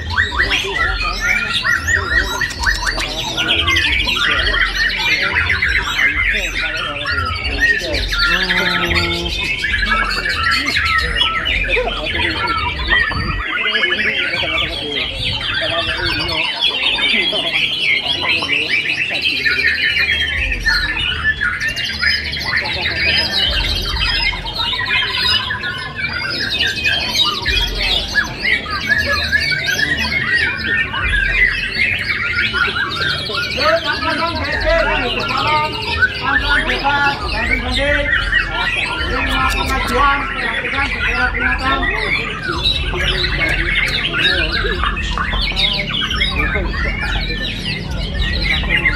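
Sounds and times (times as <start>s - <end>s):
songbirds singing chorus: 0.0s - 48.9s.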